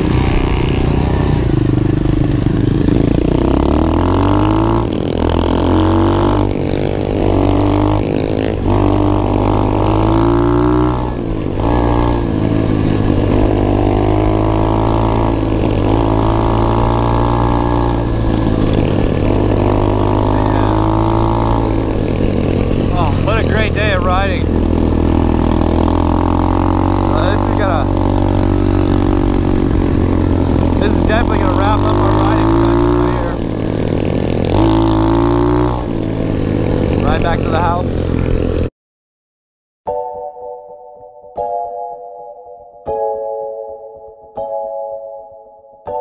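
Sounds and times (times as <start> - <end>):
motorcycle engine revving: 0.0 - 38.7.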